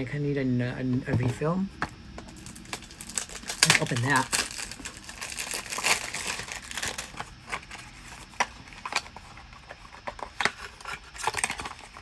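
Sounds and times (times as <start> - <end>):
wrapping crinkling: 2.3 - 12.0.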